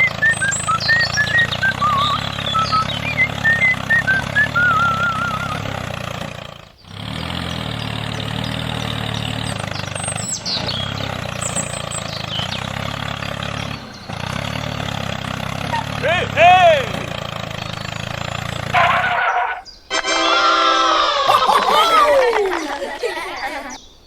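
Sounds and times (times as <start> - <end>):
birds chirping and whistling: 0.0 - 19.9, 22.6 - 24.0
low engine hum: 0.0 - 19.9.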